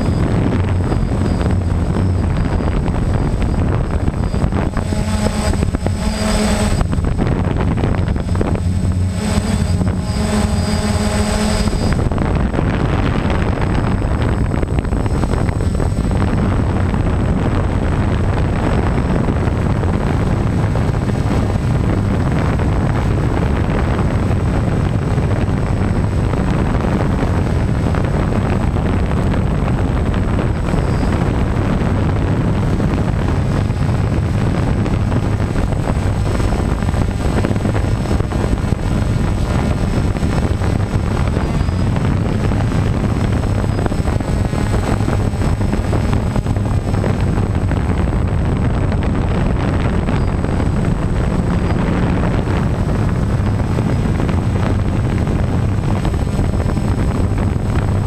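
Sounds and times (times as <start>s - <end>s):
drone motors and propellers: 0.0s - 58.0s
faint high whine: 0.0s - 58.0s
wind buffeting microphone: 0.0s - 58.0s.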